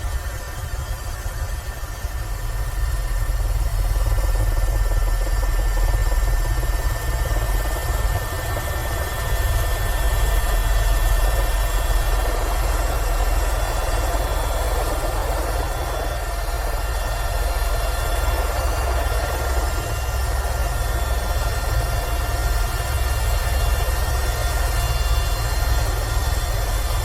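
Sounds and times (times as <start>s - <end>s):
helicopter rotor drone: 0.0s - 27.0s
high turbine whine: 0.0s - 27.0s.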